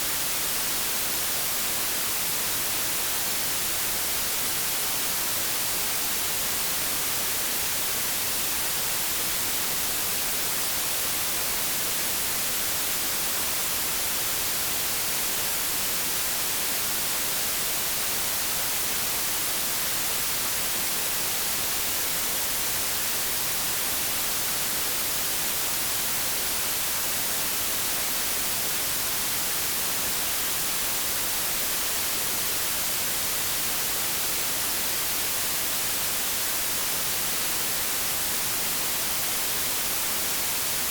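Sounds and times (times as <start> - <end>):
white-noise static hiss: 0.0 - 40.9.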